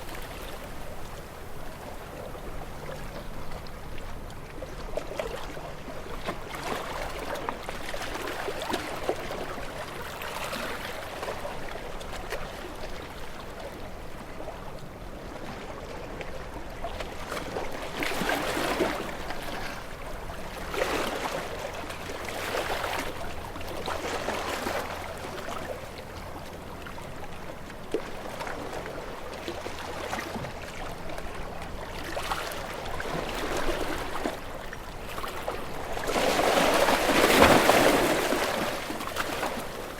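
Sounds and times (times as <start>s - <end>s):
water lapping and sloshing: 0.0s - 39.9s.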